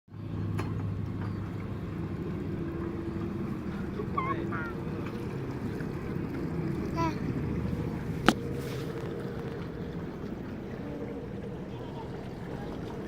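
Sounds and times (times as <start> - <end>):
boat engine humming: 0.1 - 13.0.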